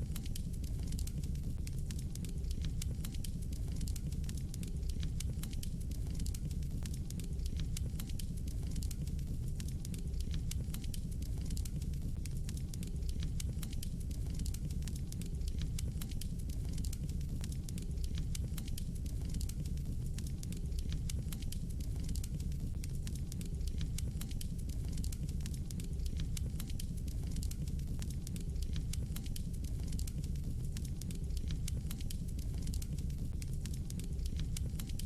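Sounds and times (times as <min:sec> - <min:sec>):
fire crackling: 0:00.0 - 0:35.0
low rumble of flames: 0:00.0 - 0:35.0.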